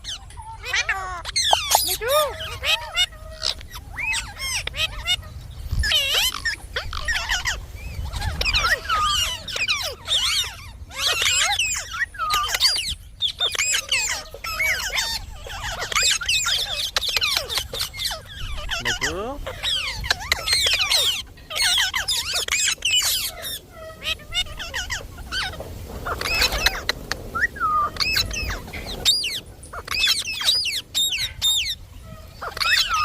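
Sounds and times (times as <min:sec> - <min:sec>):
parrot chattering: 0:00.0 - 0:33.0.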